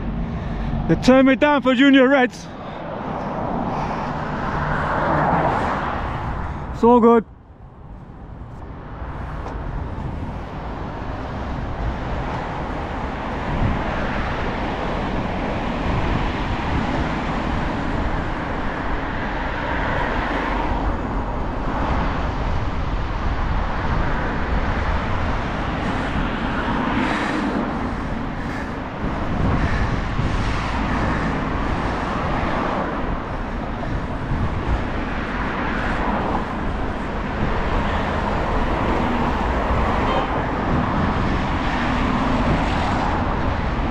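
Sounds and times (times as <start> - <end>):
cars passing: 0.0 - 43.9.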